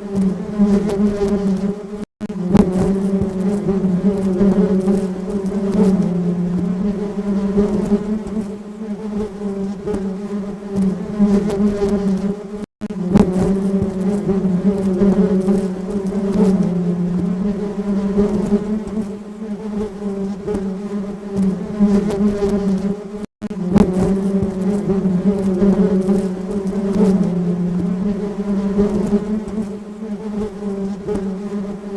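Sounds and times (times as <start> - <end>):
honeybee buzzing: 0.0 - 31.9.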